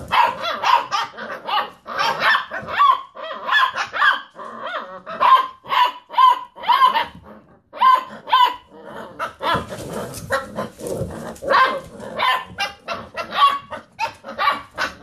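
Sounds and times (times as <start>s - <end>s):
puppies yipping and barking: 0.0s - 15.0s.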